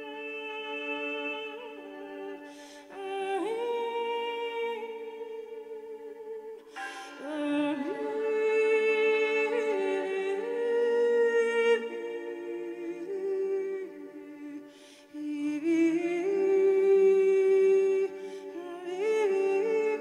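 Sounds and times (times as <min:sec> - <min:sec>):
woman singing wordlessly: 0:00.0 - 0:20.0.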